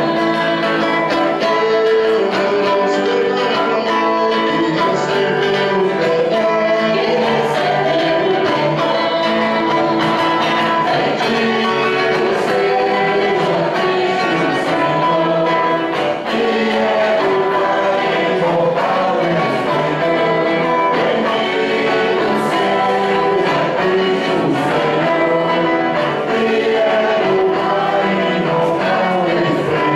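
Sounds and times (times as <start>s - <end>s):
group singing a hymn: 0.0s - 29.9s
instrumental accompaniment: 0.0s - 29.9s.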